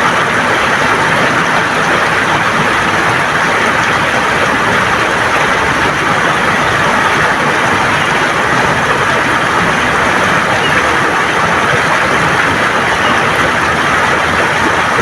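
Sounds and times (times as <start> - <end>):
river water flowing over stones: 0.0 - 15.0.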